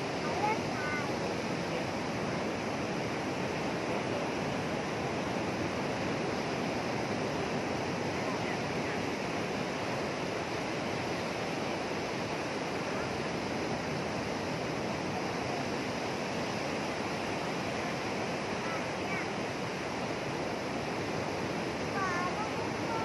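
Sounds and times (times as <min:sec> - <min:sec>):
sea surf breaking on beach: 0:00.0 - 0:23.0.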